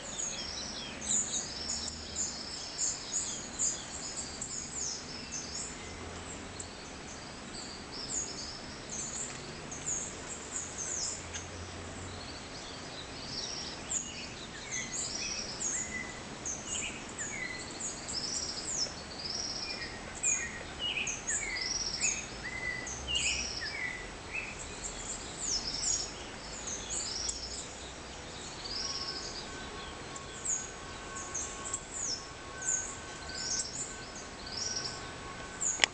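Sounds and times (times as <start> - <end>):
background hiss: 0.0 - 35.9
birds chirping: 0.0 - 35.9
faint high whine: 0.0 - 35.9.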